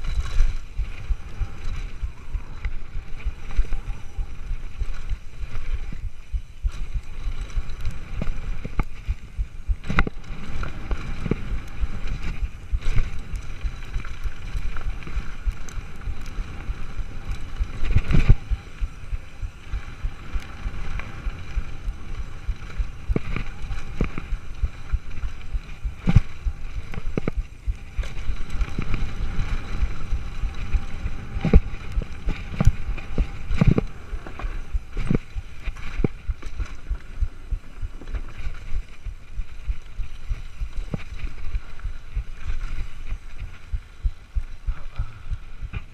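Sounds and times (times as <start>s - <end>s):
tyres rolling on gravel: 0.0s - 44.6s
bike knocking and rattling: 0.0s - 45.9s
wind on microphone: 0.0s - 45.9s.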